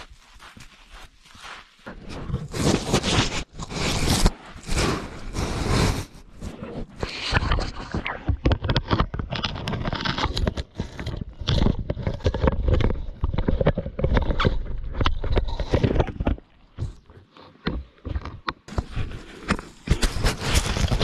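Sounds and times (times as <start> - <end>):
lion chewing on camera: 1.8 - 21.0.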